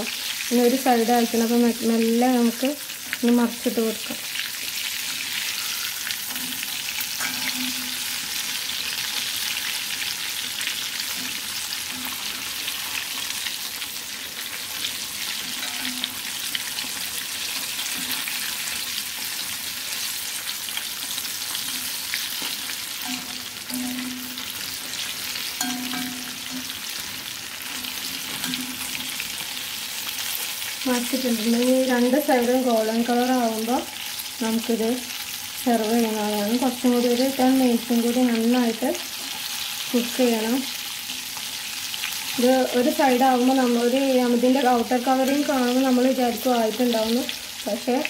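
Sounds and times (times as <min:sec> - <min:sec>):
oil sizzling and crackling: 0:00.0 - 0:48.0.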